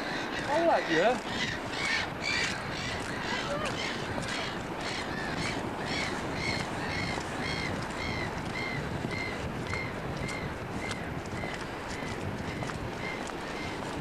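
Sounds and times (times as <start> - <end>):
bird calling: 0.0 - 13.9.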